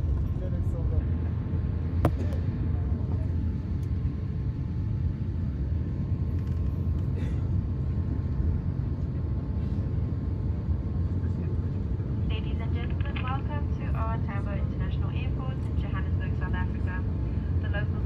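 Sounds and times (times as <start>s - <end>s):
jet engines idling rumble: 0.0s - 18.0s.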